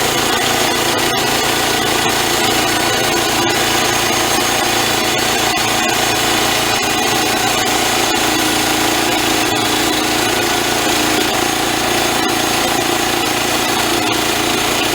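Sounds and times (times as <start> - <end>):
band saw cutting log: 0.0 - 14.9
sawmill engine running: 0.0 - 14.9.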